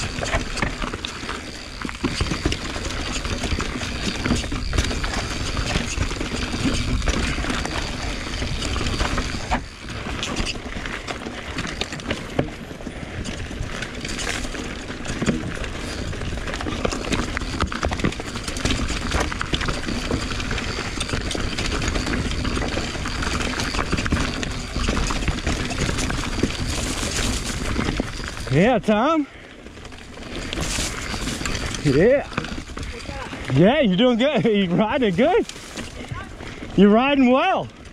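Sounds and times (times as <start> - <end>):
bike rattling over bumps: 0.0 - 37.9.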